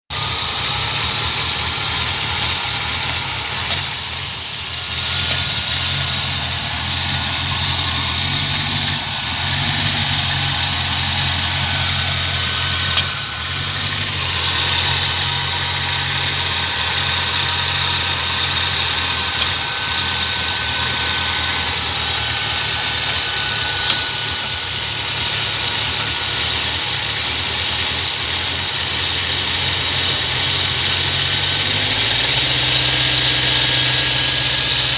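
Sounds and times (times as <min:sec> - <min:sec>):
engine idling rough: 0:00.0 - 0:34.9
thin high whine: 0:00.1 - 0:34.9.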